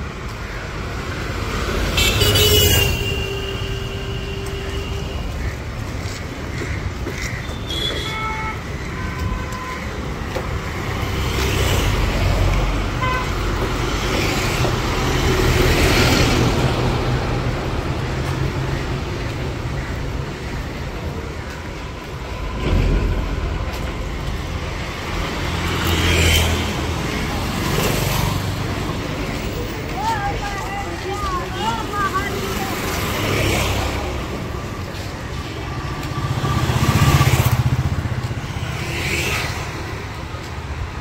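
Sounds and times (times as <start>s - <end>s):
car and truck traffic: 0.0s - 41.0s.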